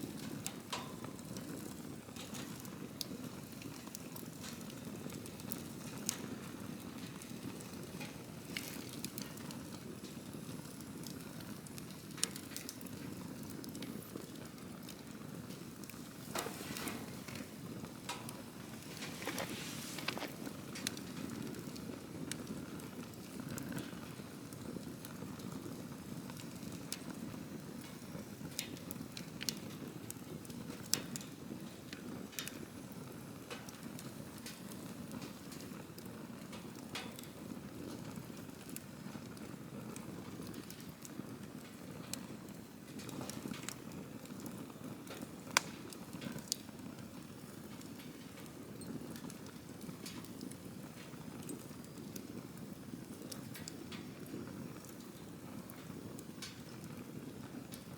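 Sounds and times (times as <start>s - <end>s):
campfire flames rushing: 0.0s - 57.9s
fire popping and crackling: 0.0s - 57.9s.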